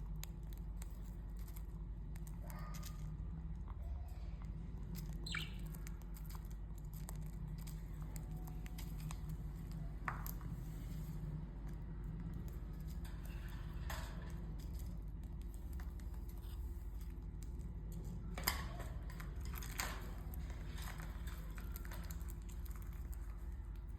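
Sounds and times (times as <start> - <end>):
birds pecking at seed: 0.0 - 23.9
steady low hum: 0.0 - 23.9.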